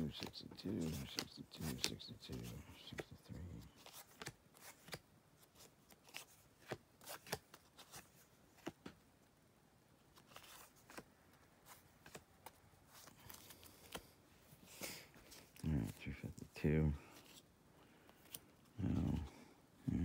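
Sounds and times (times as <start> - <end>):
cards clicking and rustling: 0.0 - 9.0, 10.1 - 16.3, 17.1 - 19.3.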